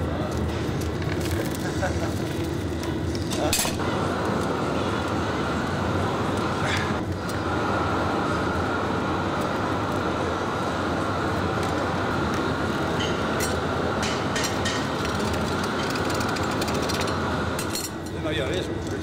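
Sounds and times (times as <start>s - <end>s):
furnace burners rushing: 0.0s - 19.0s.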